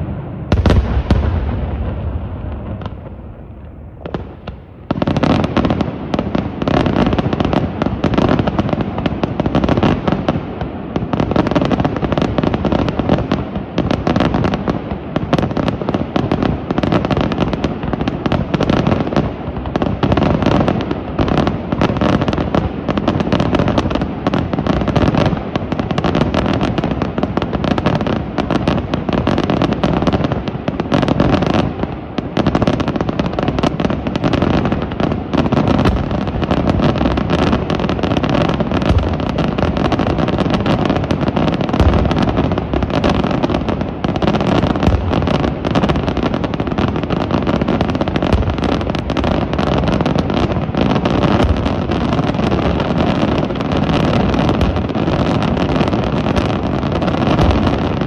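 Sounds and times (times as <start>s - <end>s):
fireworks bursts and firecracker bangs: 0.0s - 58.0s.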